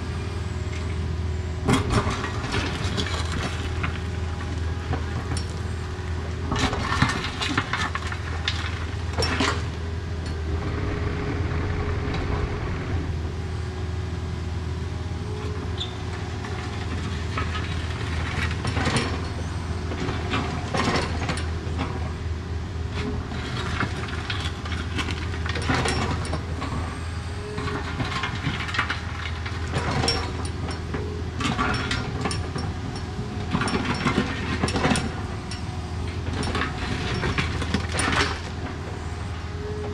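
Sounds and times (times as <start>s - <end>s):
diesel engine running: 0.0s - 39.9s
machine clanks and rattles: 1.6s - 5.6s, 6.5s - 13.2s, 15.8s - 22.2s, 22.9s - 38.9s.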